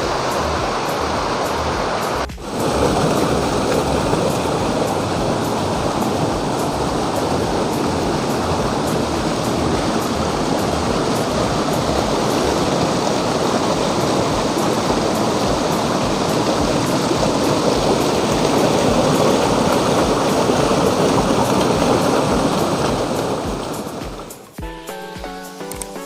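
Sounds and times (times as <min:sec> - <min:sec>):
waterfall roar: 0:00.0 - 0:24.5
stream flowing: 0:00.0 - 0:26.0.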